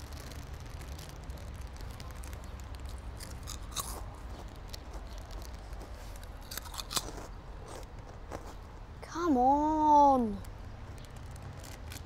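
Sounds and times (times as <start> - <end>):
soft crunches and clicks: 0.0 - 8.9, 10.4 - 12.0.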